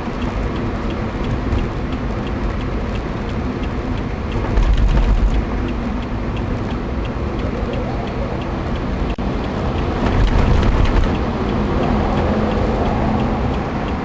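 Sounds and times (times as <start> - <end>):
faint regular ticking: 0.0 - 14.0
vehicle engine and road rumble: 0.0 - 14.0.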